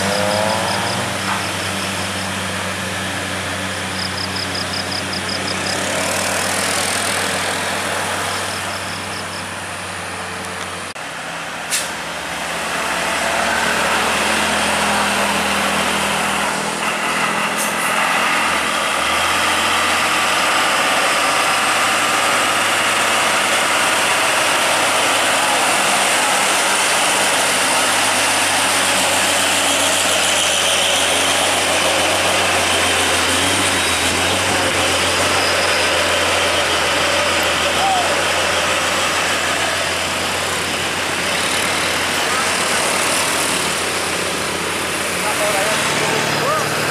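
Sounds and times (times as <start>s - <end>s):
heavy truck engines running: 0.0s - 46.9s
road noise: 0.0s - 46.9s.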